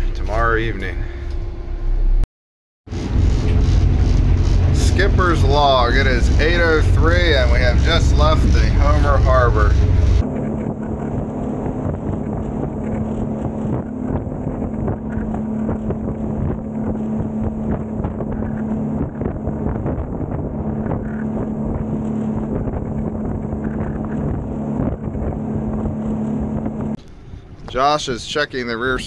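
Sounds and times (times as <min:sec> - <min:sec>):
outboard motors humming: 0:00.0 - 0:01.8, 0:02.9 - 0:29.0
wind on microphone: 0:02.9 - 0:27.9
water rushing off hull: 0:02.9 - 0:28.4.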